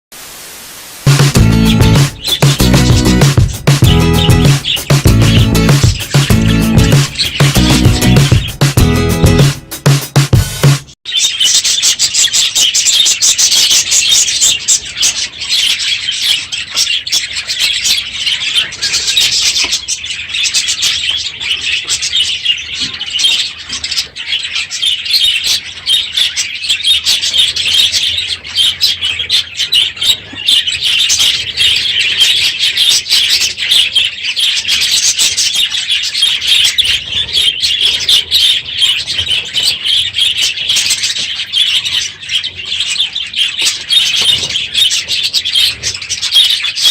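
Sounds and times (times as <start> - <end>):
flock of budgerigars chirping: 1.1 - 9.4, 11.1 - 46.9.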